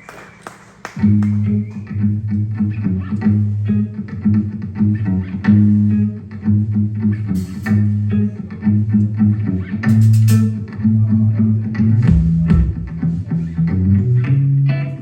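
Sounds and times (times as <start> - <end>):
bass guitar: 1.0 - 15.0
picked electric guitar: 1.0 - 15.0.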